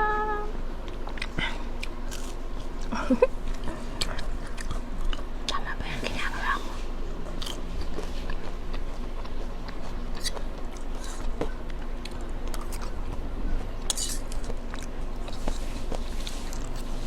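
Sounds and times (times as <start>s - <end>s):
close-miked chewing: 0.8s - 17.0s.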